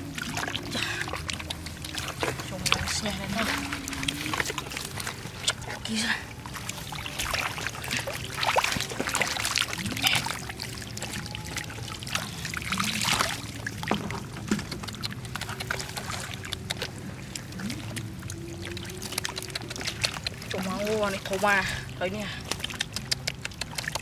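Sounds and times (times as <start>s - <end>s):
steady low hum: 0.0s - 24.0s
water splashing and pouring: 0.0s - 24.0s.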